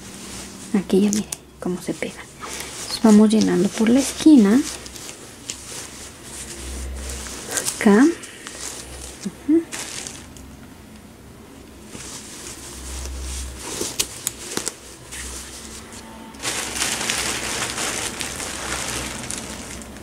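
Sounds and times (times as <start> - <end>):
hands rustling fabric and stuffing: 0.0 - 10.5, 11.6 - 20.0.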